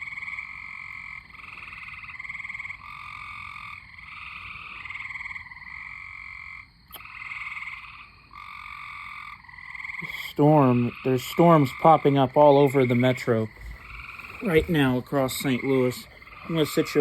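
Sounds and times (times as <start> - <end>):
tree frogs trilling: 0.0 - 17.0.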